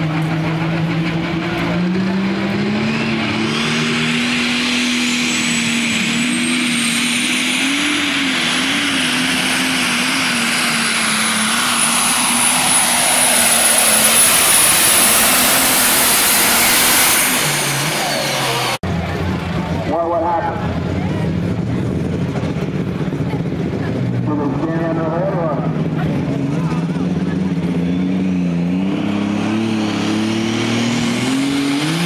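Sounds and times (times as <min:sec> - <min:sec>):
tractor diesel engine at full power: 0:00.0 - 0:32.0.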